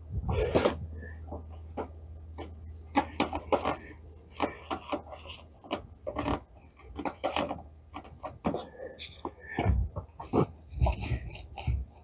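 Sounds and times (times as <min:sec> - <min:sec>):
steady low hum: 0:00.0 - 0:12.0
rag rubbing on metal: 0:00.2 - 0:12.0.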